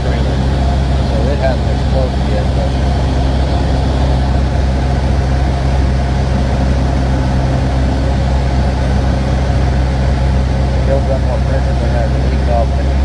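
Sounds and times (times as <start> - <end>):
aircraft engine drone: 0.0 - 13.0.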